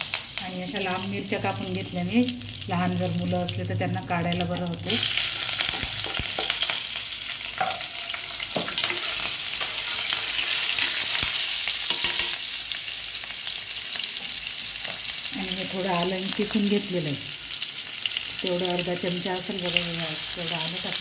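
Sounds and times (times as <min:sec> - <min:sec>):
spices sizzling in hot oil: 0:00.0 - 0:21.0.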